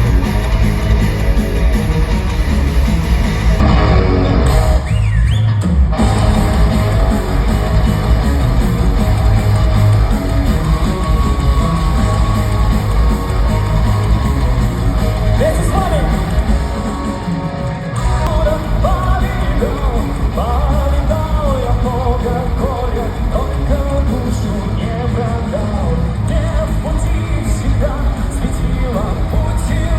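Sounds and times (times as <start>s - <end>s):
heavy metal band playing live: 0.0s - 29.9s
loud electric guitars: 0.0s - 29.9s.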